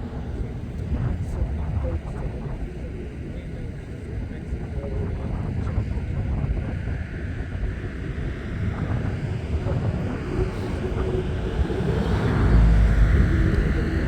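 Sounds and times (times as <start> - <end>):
jet engines low rumble: 0.0 - 14.0
wind buffeting microphone: 0.0 - 14.0.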